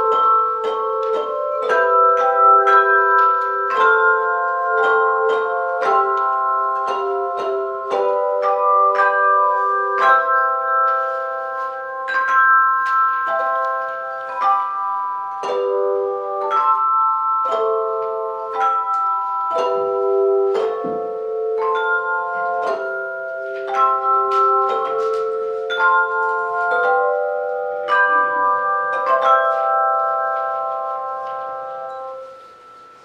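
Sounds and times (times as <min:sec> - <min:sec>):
handbell choir ringing a hymn: 0:00.0 - 0:33.0.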